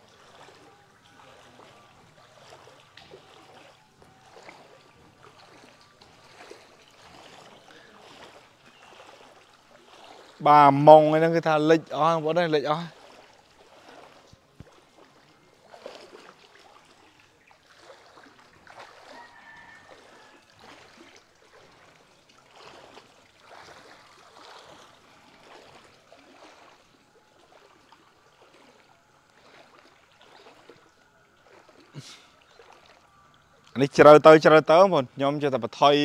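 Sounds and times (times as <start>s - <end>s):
floodwater sloshing: 0.0s - 36.0s.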